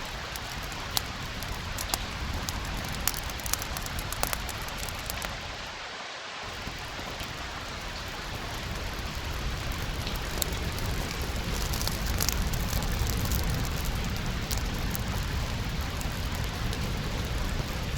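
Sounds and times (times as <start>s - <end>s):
fireplace fire crackling: 0.0s - 17.9s
steady rain: 0.0s - 17.9s.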